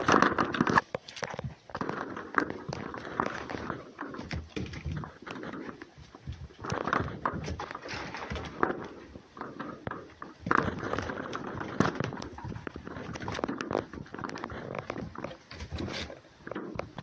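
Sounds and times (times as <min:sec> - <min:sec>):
animals scuffing and clicking: 0:00.0 - 0:17.0.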